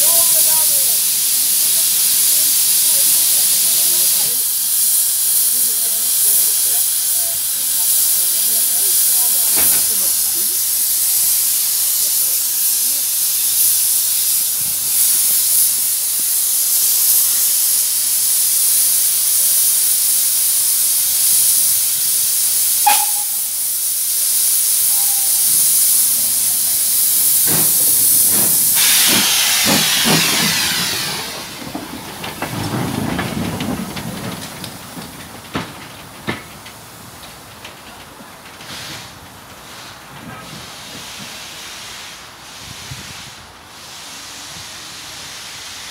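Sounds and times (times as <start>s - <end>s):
steam locomotive hissing: 0.0s - 45.9s.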